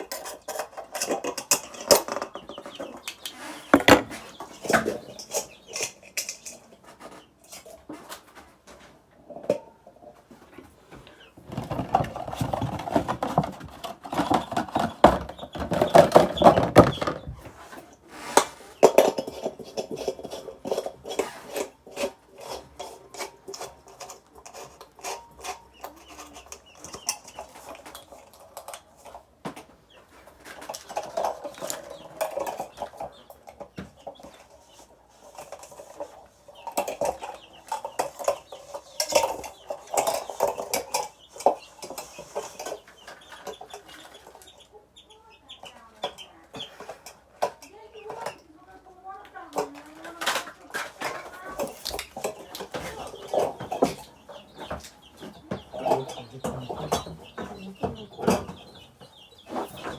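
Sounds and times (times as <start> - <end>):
chickens calling: 0.0 - 59.9.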